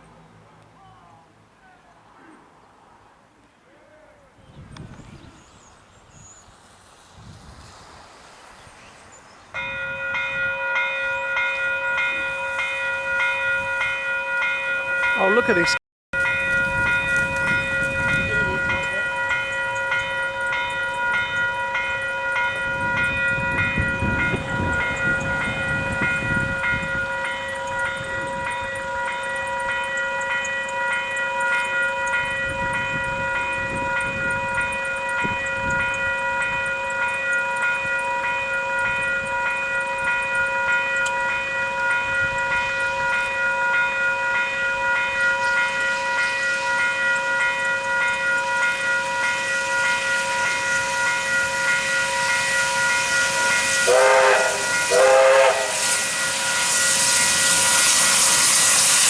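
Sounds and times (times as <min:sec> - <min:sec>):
low train rumble: 0:03.9 - 0:59.0
level crossing warning bell: 0:09.6 - 0:58.8.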